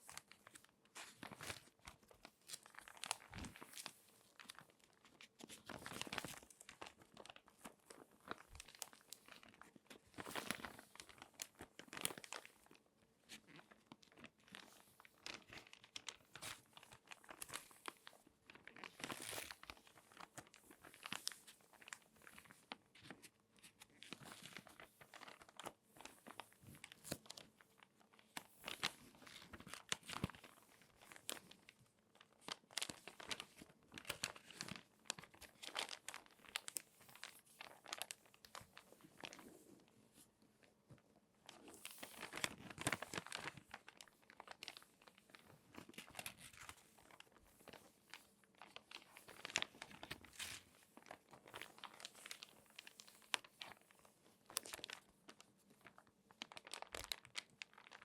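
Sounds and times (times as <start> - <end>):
paper pages crumpling: 0.0 - 40.3, 40.9 - 58.0.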